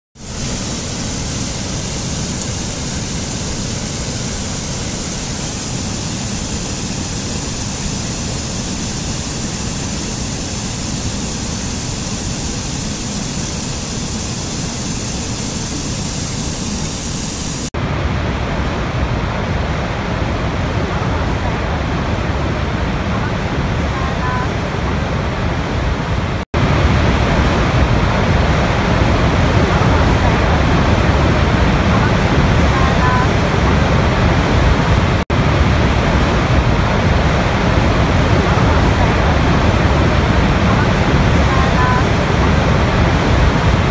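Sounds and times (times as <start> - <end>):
large waterfall rushing: 0.2 - 43.9.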